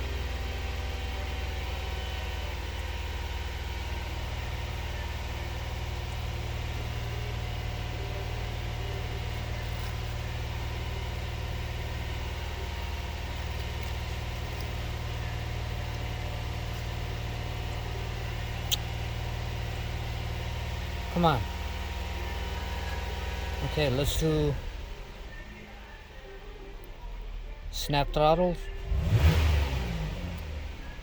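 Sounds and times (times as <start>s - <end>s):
car engine running at raised speed: 0.0s - 31.0s.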